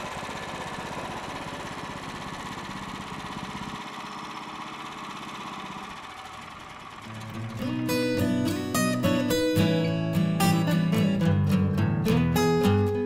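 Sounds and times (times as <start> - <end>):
sawmill engine running: 0.0 - 11.4.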